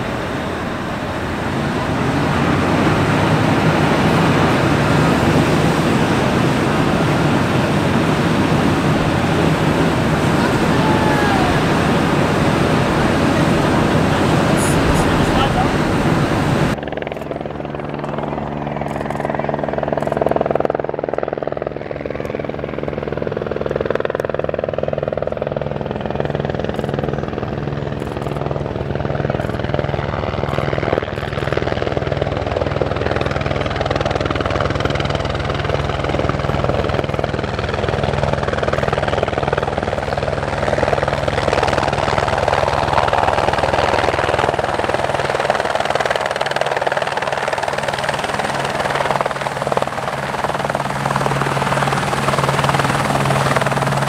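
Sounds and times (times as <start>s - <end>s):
aircraft engines droning: 0.0s - 54.0s.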